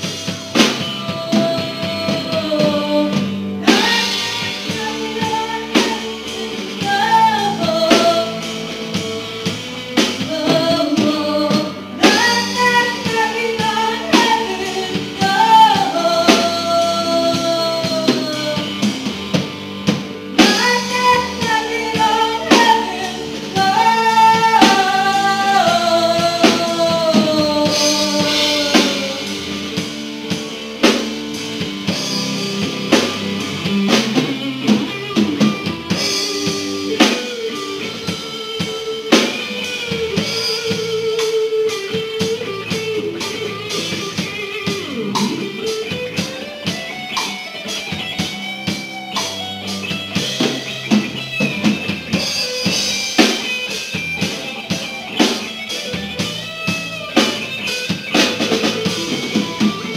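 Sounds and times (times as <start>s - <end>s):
drum kit beat: 0.0s - 59.9s
electric guitar lead: 0.0s - 59.9s.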